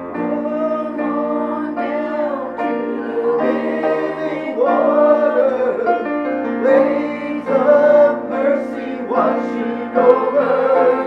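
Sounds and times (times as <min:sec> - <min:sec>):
piano accompaniment: 0:00.0 - 0:11.0
man singing gospel song: 0:00.2 - 0:11.0.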